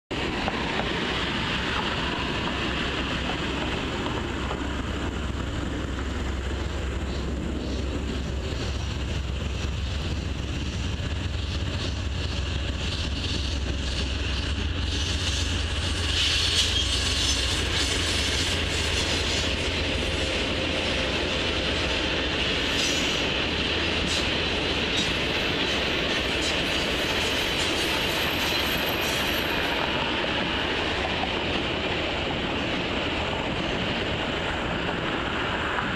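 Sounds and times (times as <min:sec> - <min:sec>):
passenger train rolling past: 0:00.1 - 0:35.9.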